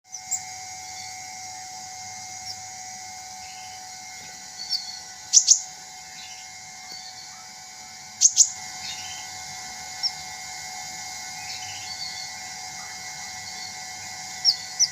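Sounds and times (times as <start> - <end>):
bird chirping: 0.1 - 1.4, 2.0 - 14.9
steady high hiss: 0.1 - 14.9.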